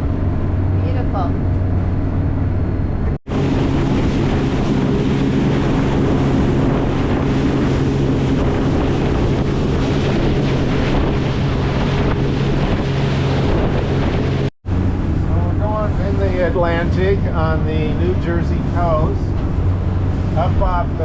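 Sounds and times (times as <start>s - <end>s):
boat engine running: 0.0s - 21.0s
water rushing along hull: 0.0s - 21.0s
wind buffeting microphone: 0.0s - 21.0s.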